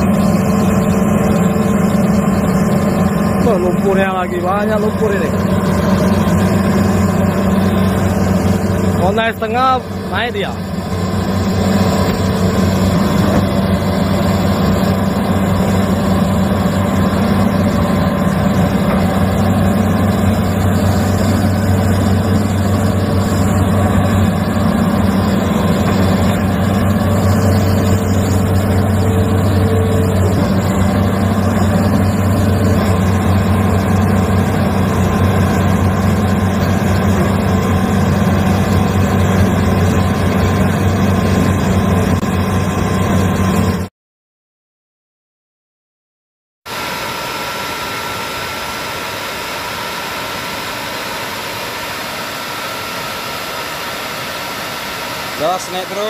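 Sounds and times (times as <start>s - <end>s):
excavator diesel engine droning: 0.0s - 43.9s, 46.7s - 56.0s.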